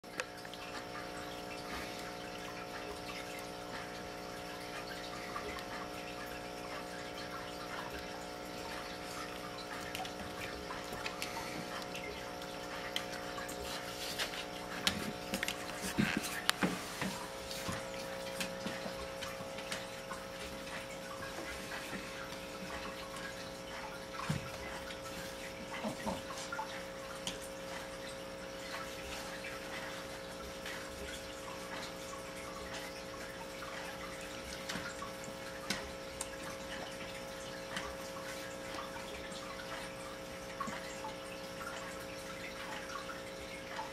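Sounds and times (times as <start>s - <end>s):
electrical hum: 0.0s - 43.9s.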